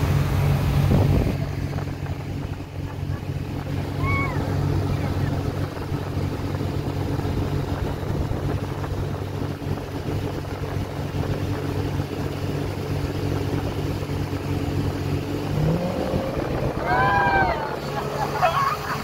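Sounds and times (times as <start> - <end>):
motorboat engine droning: 0.0 - 19.0
wind and water rushing: 0.0 - 19.0.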